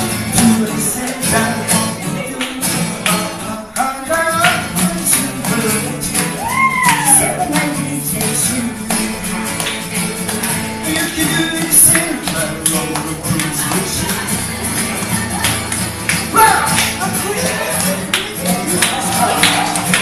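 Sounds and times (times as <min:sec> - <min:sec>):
acoustic guitars strumming: 0:00.0 - 0:20.0
people singing: 0:00.0 - 0:20.0.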